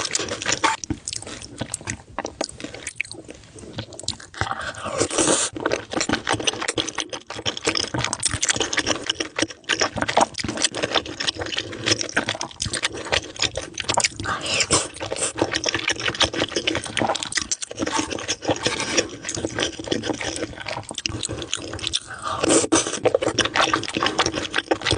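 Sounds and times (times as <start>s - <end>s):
food being chewed: 0.0s - 24.9s.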